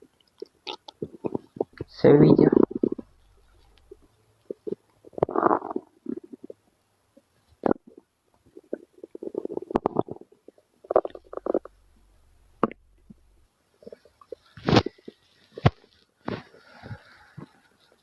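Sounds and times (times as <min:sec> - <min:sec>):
stomach rumbling and gurgling: 0:00.0 - 0:18.0.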